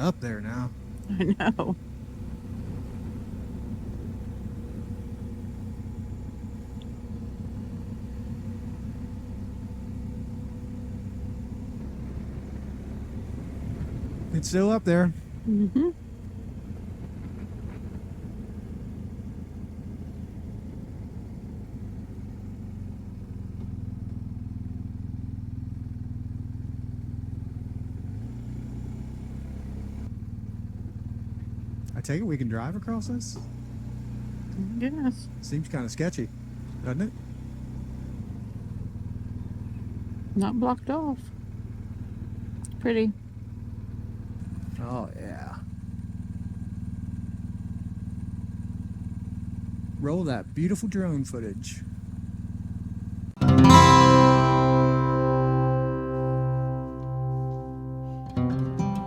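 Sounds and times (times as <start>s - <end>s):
motorcycle engine cruising: 0.0s - 59.0s
road rumble: 0.0s - 59.0s.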